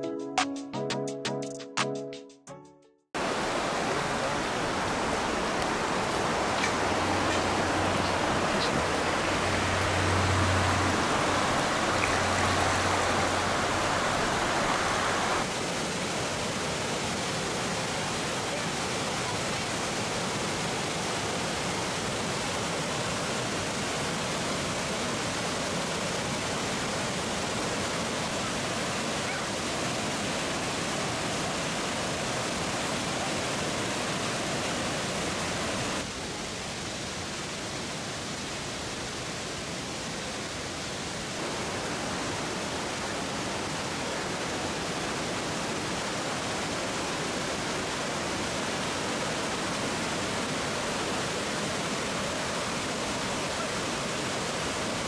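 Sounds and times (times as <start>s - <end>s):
waterfall rushing: 3.2s - 55.0s.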